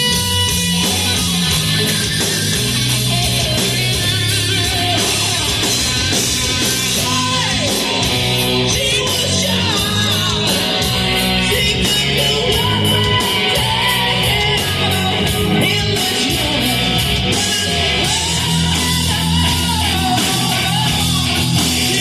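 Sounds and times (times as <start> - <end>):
bass: 0.0 - 22.0
distorted electric guitar: 0.0 - 22.0
drums: 0.0 - 22.0.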